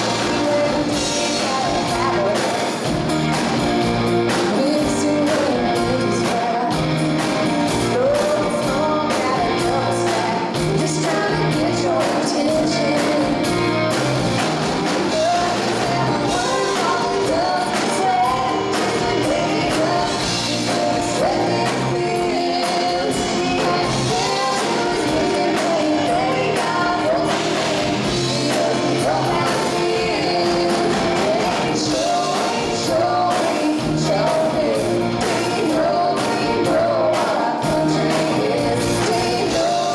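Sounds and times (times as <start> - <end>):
women singing: 0.0 - 3.0, 4.3 - 7.0, 7.7 - 39.9
drum kit: 0.0 - 39.9
electric guitar: 0.0 - 39.9.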